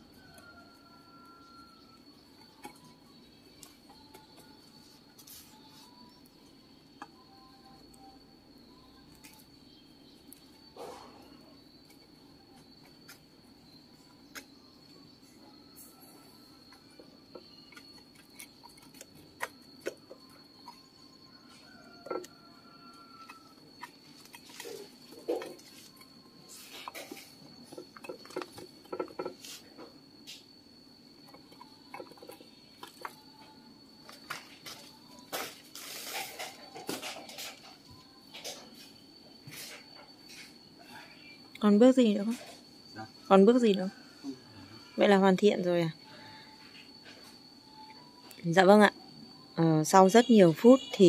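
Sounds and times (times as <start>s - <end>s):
high-pitched insect trill: 0.0s - 51.0s.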